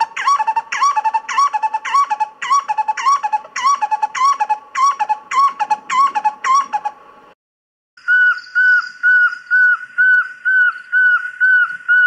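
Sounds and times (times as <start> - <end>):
bird call: 0.0 - 7.0, 8.0 - 12.0.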